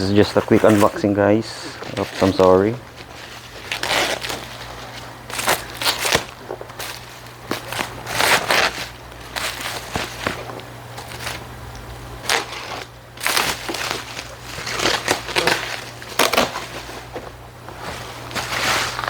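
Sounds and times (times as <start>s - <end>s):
plastic wrap crinkling: 0.0s - 11.5s, 12.2s - 19.0s.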